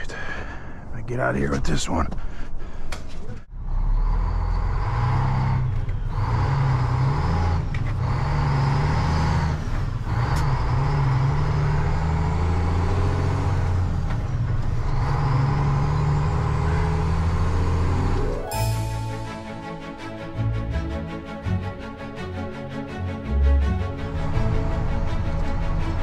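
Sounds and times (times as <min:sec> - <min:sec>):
dump truck diesel engine: 0:03.5 - 0:18.3, 0:19.9 - 0:26.0.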